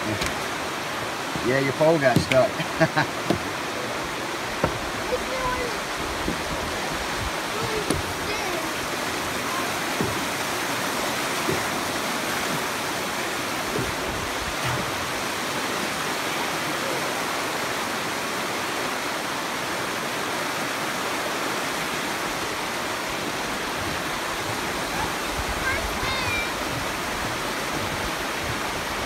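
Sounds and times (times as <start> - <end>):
river rapids roaring: 0.0 - 29.0.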